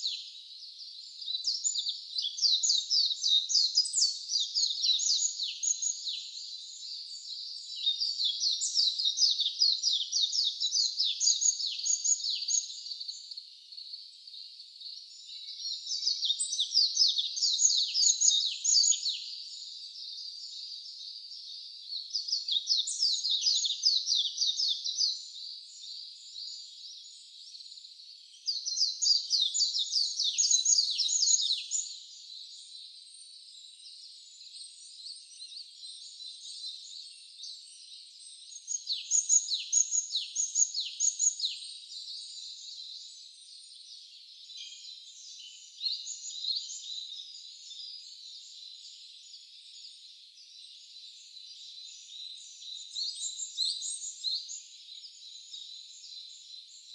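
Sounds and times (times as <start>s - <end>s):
soft bird chirping: 0.0s - 56.9s.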